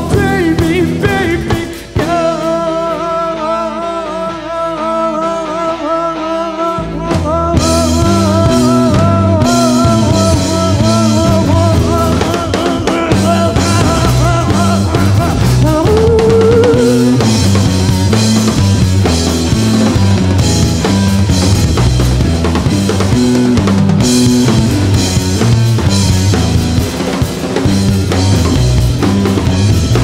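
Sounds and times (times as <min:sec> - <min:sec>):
bass guitar: 0:00.0 - 0:30.0
drum kit and cymbals: 0:00.0 - 0:30.0
electric guitar melody: 0:00.0 - 0:30.0.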